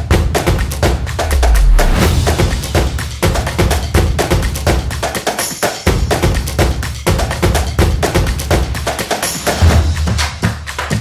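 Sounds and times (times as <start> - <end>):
music with fast beat and heavy bass: 0.0 - 11.0.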